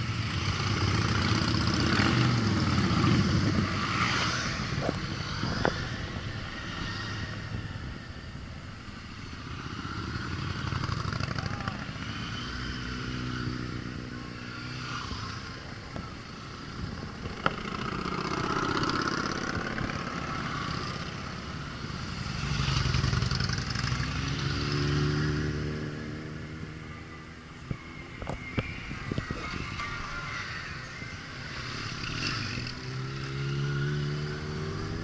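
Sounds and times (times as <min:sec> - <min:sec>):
motorcycles riding past: 0:00.0 - 0:35.0.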